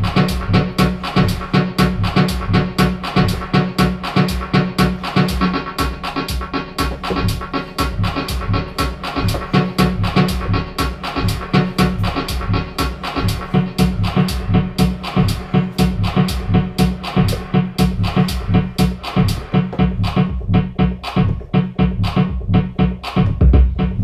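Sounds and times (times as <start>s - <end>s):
electronic bass: 0.0s - 24.0s
electronic drum beat: 0.0s - 24.0s.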